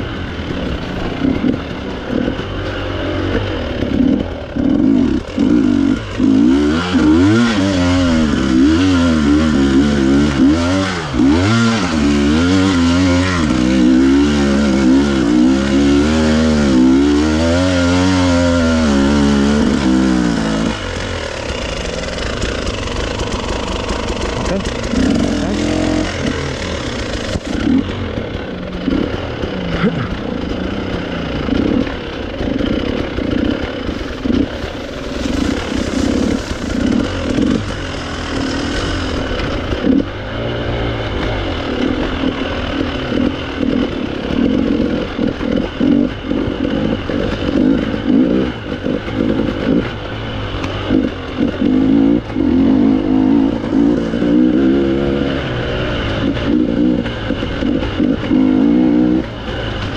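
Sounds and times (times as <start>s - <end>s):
clatter: 0.0s - 59.9s
motorcycle engine revving: 0.0s - 59.9s.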